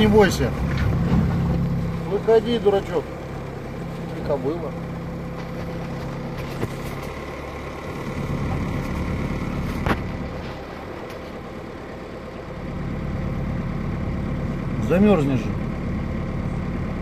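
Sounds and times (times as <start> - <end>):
all-terrain vehicle engine idling: 0.0 - 17.0.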